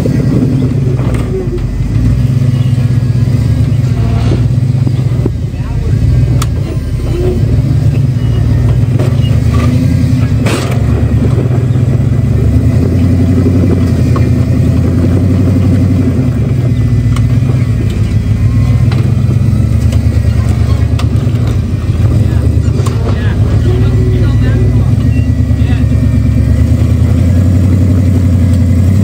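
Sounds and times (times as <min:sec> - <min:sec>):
buggy engine running under load: 0:00.0 - 0:29.0.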